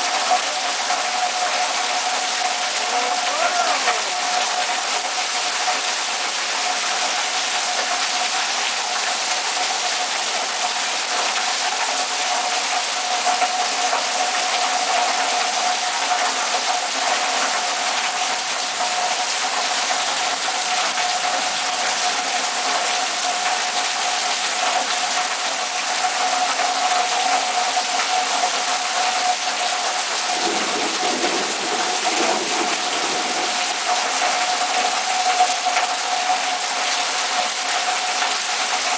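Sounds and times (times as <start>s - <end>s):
heavy rain pouring: 0.0s - 38.9s
water gushing off a roof: 0.0s - 38.9s.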